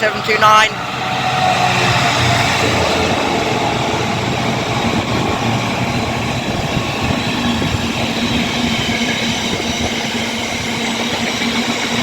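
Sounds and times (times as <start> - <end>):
freight train wagons rumbling: 0.0 - 12.0.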